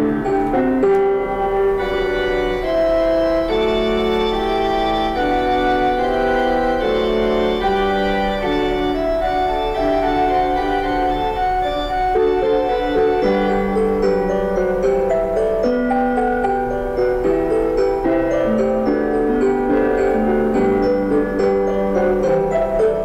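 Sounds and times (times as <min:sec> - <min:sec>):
slow organ-like keyboard music: 0:00.0 - 0:23.0.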